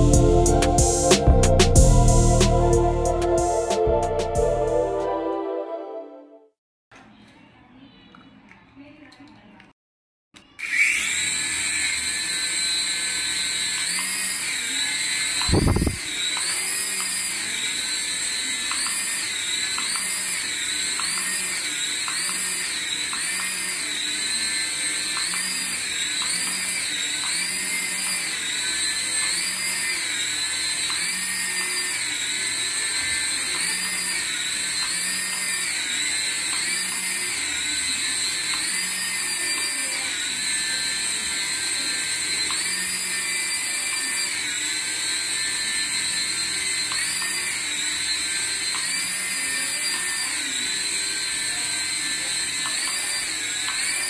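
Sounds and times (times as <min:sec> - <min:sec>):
toy electric motor whining: 0:10.4 - 0:54.0.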